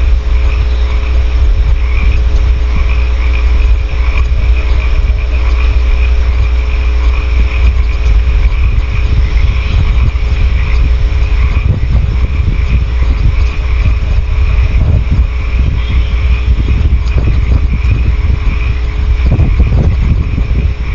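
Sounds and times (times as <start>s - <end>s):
faint electrical hum: 0.0s - 20.9s
frogs calling: 0.0s - 20.9s
low rumble: 0.0s - 20.9s.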